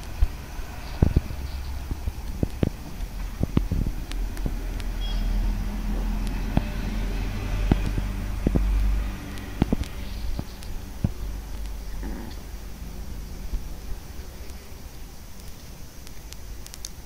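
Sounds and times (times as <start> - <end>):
low rumble: 0.0 - 15.3
cats chewing and crunching: 0.0 - 17.0.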